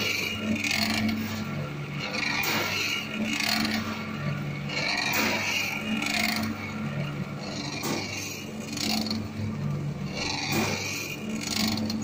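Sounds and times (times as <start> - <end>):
mixer motor hum: 0.0 - 12.0
rollers scraping wet mix: 0.0 - 12.0.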